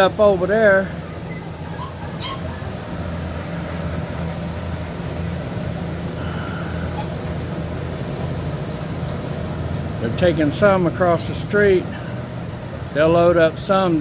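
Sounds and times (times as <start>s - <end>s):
farm machinery engine droning: 0.0s - 14.0s.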